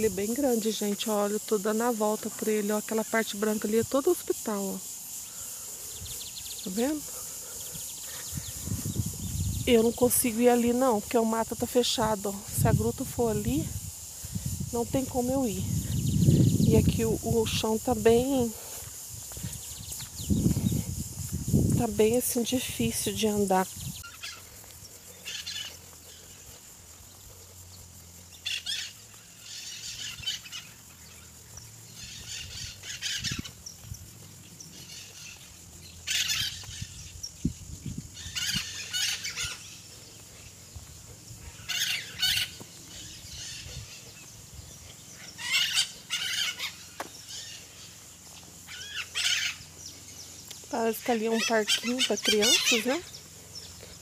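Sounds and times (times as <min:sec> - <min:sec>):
birds calling: 0:00.0 - 0:54.0.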